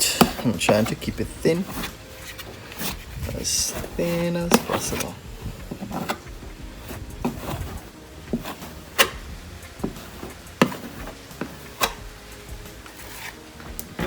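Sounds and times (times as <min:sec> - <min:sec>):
spreader clicking and scraping: 0:00.0 - 0:12.0.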